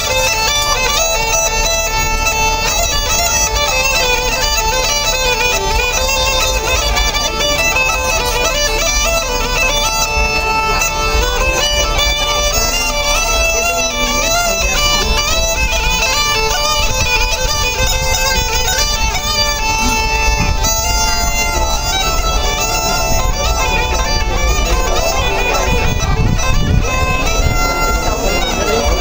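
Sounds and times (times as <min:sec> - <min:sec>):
bagpipe folk melody with drone: 0:00.0 - 0:29.0.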